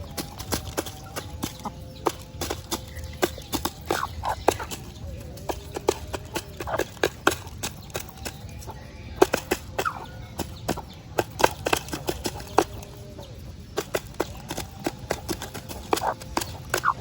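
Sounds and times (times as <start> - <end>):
chickens clucking: 0.0 - 17.0
sharp taps and clicks: 0.0 - 17.0.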